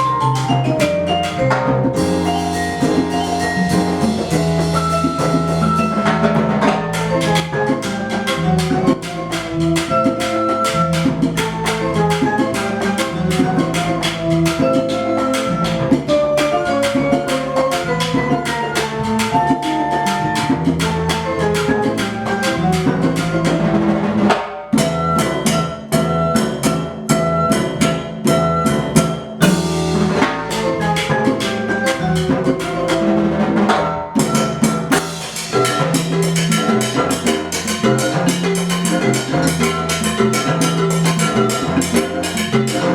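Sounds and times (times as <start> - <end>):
melody on pitched instrument: 0.0 - 24.0, 24.8 - 42.9
drums playing steady rhythm: 0.0 - 42.9.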